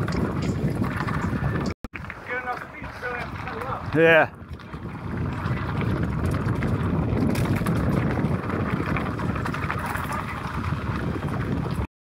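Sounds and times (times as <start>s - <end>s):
bike clattering over bumps: 0.0s - 11.9s
bike tyres on dirt: 0.0s - 11.9s
wind rush over microphone: 0.0s - 11.9s.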